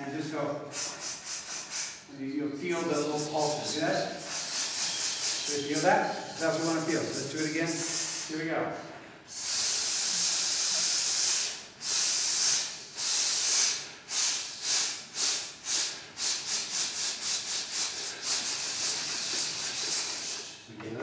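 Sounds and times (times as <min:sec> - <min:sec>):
men's chorus hissing: 0:00.6 - 0:20.7.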